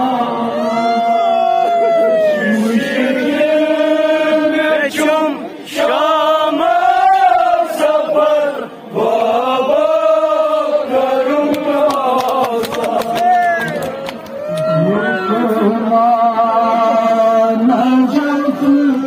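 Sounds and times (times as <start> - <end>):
men chanting over loudspeakers: 0.0 - 1.0, 1.6 - 13.7, 14.8 - 19.0.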